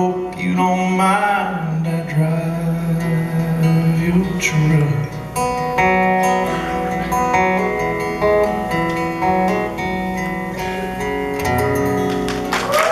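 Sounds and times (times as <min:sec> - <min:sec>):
acoustic guitar strumming chords: 0:00.0 - 0:12.7.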